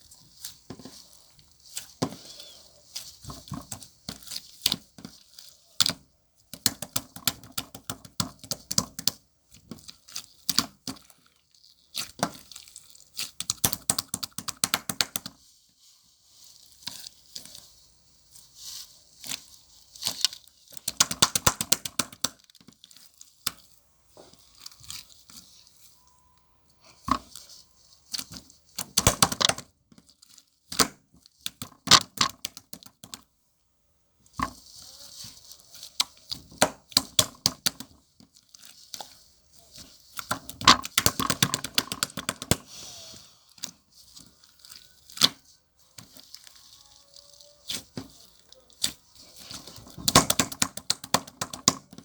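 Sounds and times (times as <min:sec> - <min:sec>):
slime crackling and popping: 0:00.3 - 0:15.4, 0:16.4 - 0:26.0, 0:27.0 - 0:33.3, 0:34.2 - 0:52.0.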